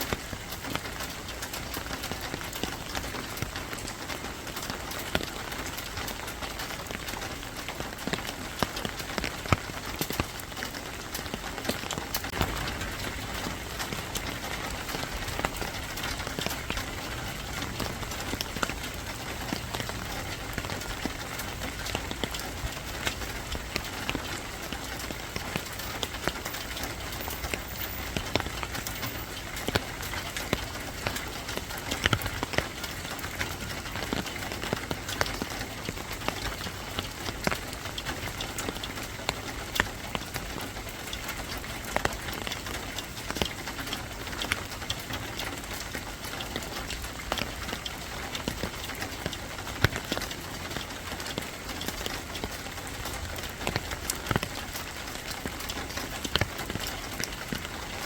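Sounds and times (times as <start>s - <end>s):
rain hissing: 0.0s - 58.0s
raindrops tapping hard surfaces: 0.0s - 58.0s.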